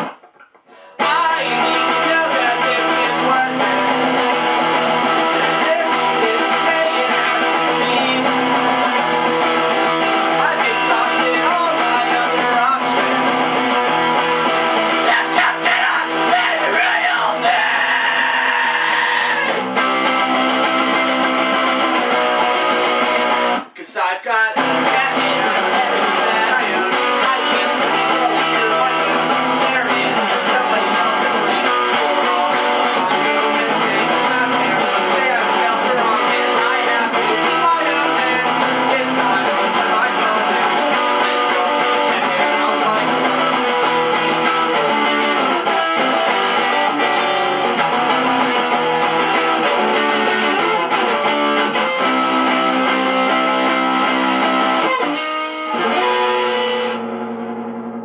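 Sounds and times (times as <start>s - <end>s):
electric guitar strumming chords: 0.0s - 23.7s, 24.6s - 58.0s.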